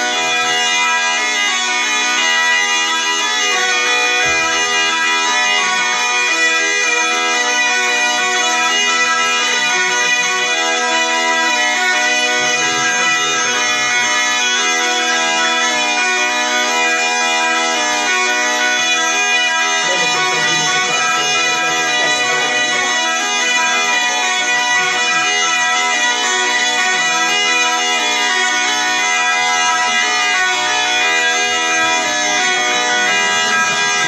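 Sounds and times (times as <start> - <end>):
bagpipe melody over drone: 0.0 - 34.0.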